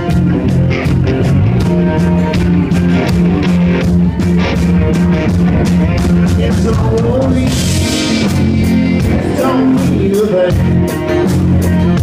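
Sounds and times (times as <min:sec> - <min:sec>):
electric guitar: 0:00.0 - 0:12.0
steady drum beat: 0:00.0 - 0:12.0.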